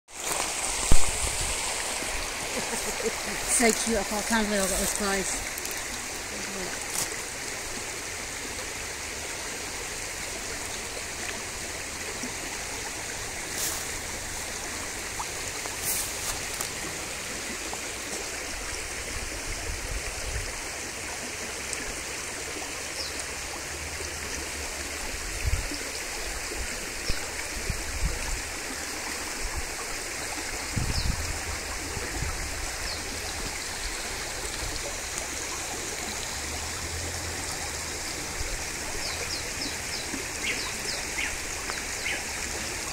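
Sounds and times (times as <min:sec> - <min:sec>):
stream babbling over stones: 0:00.1 - 0:42.9.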